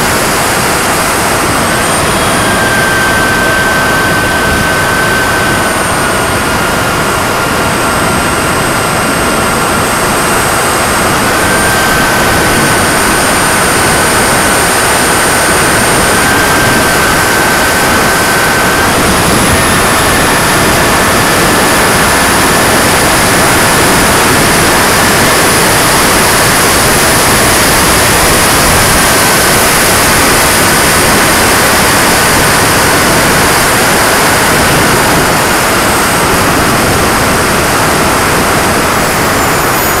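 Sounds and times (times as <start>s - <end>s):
jet turbine whine: 0.0s - 40.0s
rush of airflow: 0.0s - 40.0s.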